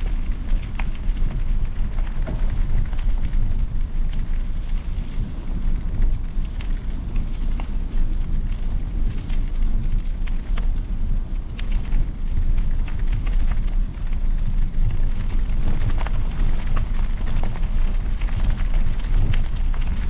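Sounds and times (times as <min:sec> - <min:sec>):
light clicks and rattles: 0:00.0 - 0:20.0
wind buffeting microphone: 0:00.0 - 0:20.0.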